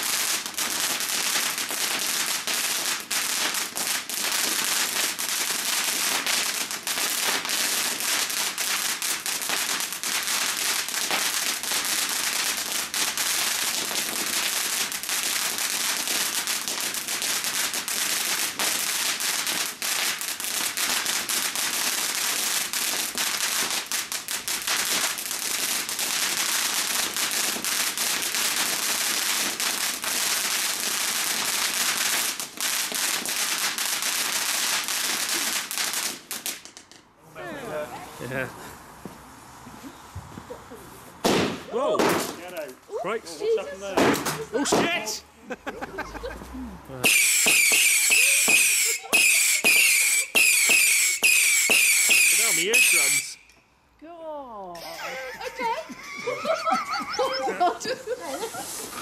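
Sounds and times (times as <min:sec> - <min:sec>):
firework fountain hissing and crackling: 0:00.0 - 0:53.6, 0:54.8 - 0:59.0.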